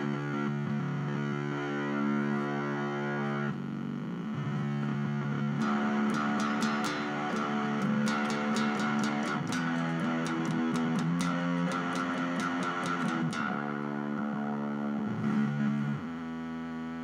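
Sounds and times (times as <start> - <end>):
distorted electric guitar notes: 0.0 - 17.0.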